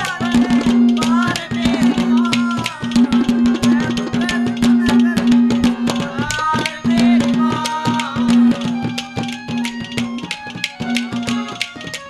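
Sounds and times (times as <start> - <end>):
hand drum beating: 0.0 - 12.0.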